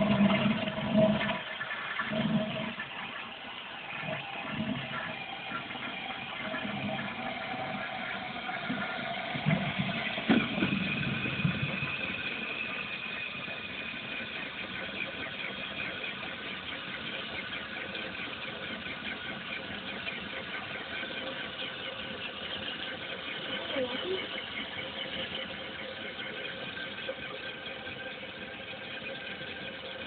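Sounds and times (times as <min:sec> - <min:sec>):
toilet running: 0:00.0 - 0:30.0.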